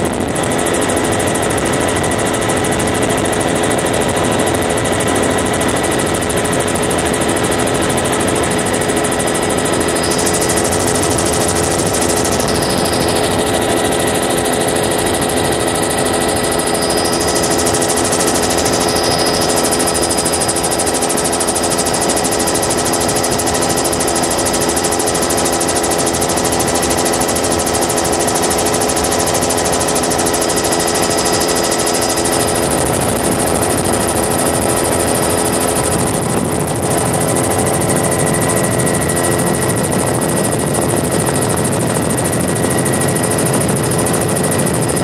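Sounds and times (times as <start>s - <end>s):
helicopter engine and rotor noise: 0.0s - 45.0s.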